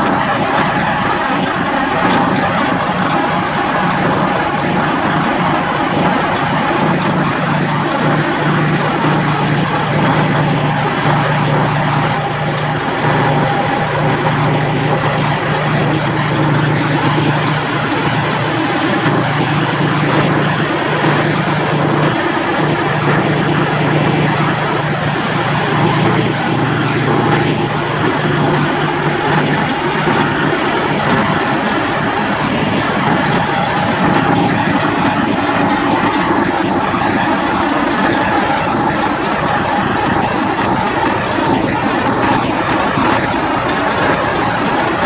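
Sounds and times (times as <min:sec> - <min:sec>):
truck engines idling: 0:00.0 - 0:45.0.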